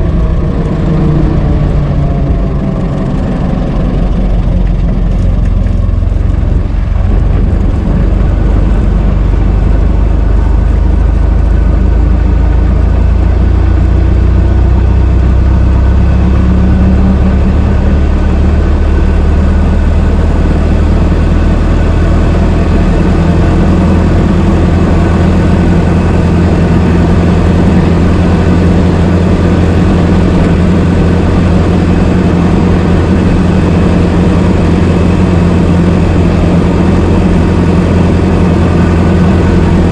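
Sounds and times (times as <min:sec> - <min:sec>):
car engine running steadily: 0:00.0 - 0:39.9.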